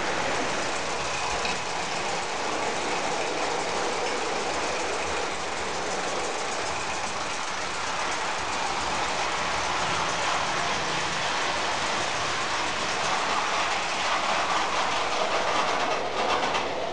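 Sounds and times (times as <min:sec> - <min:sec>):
toy train wheels on metal rails: 0:00.0 - 0:16.9.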